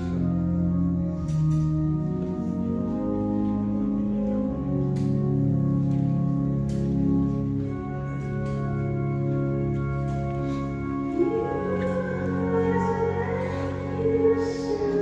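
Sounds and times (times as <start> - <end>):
organ playing slow chords: 0.0 - 15.0.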